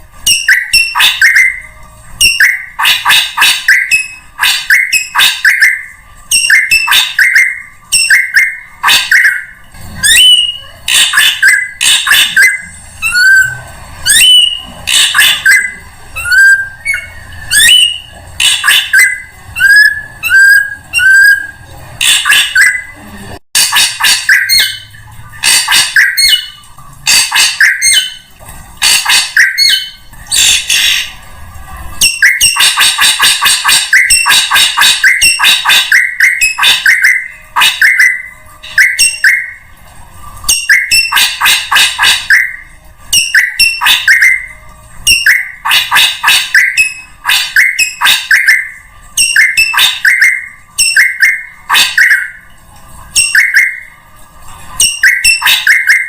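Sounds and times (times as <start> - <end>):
bird whistling and chattering: 0.3 - 23.0, 23.6 - 31.1, 32.0 - 39.6, 40.5 - 44.5, 45.1 - 52.4, 53.2 - 53.9, 54.8 - 56.0.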